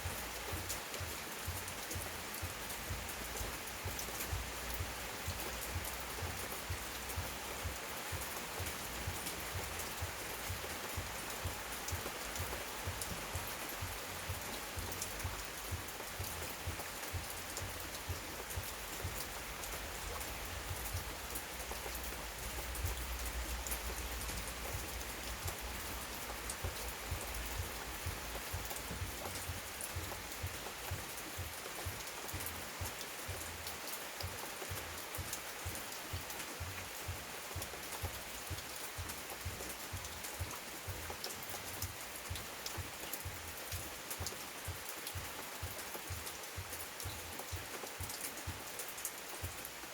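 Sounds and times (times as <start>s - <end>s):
heavy rain falling: 0.0s - 49.9s
raindrops ticking on a surface: 0.0s - 49.9s.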